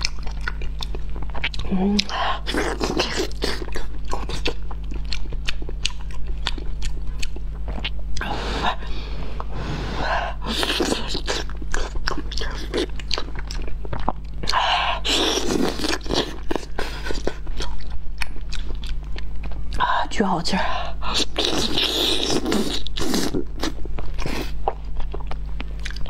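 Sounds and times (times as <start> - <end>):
wet chewing and mouth smacks: 0.0 - 8.3, 10.7 - 19.8, 21.1 - 26.0
faint steady hum: 0.0 - 26.0.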